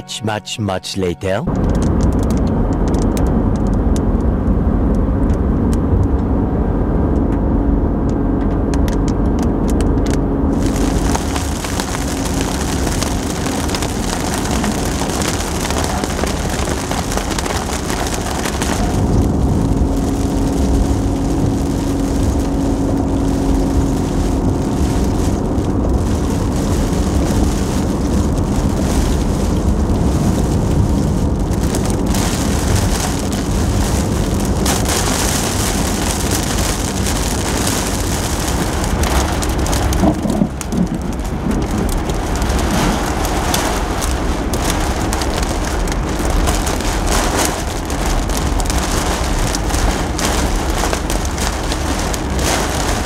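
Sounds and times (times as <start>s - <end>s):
road and engine rumble: 0.0s - 53.0s
rain and wet tyres hissing: 8.0s - 53.0s.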